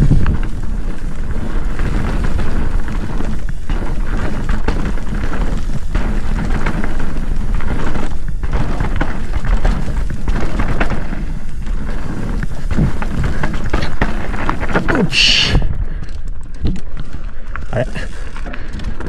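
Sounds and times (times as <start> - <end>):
wind rumble on microphone: 0.0 - 17.8
bike knocks and rattles: 0.0 - 19.0.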